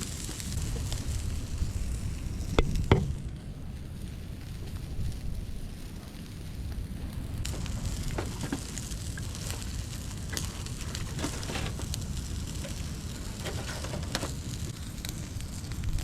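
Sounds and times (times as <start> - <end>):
low steady rumble: 0.0 - 16.0
wood fire crackling: 0.0 - 16.0.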